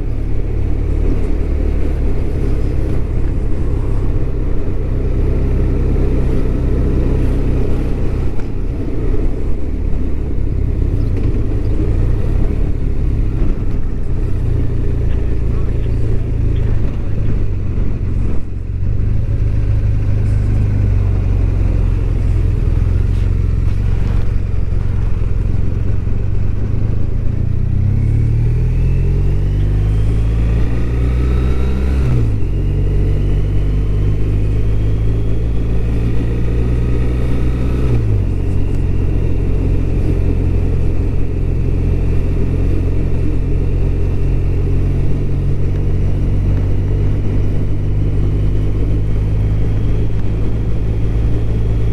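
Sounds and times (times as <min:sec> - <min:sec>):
motorcycle engine under way: 0:00.0 - 0:51.9
wind and road noise: 0:00.0 - 0:51.9.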